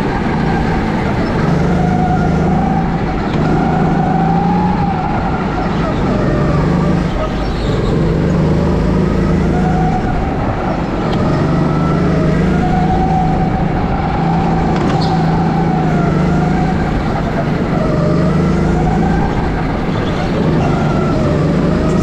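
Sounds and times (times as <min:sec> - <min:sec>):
racing kart engine: 0:00.0 - 0:22.0.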